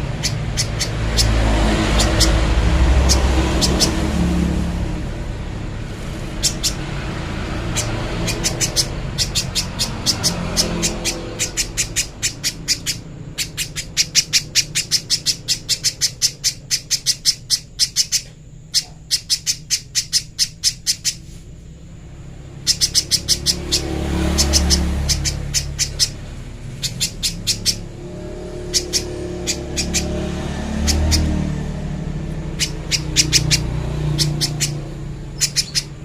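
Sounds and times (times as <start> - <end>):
bird sharp high chips: 0.0 - 4.6, 5.9 - 21.4, 22.5 - 31.5, 32.4 - 36.0.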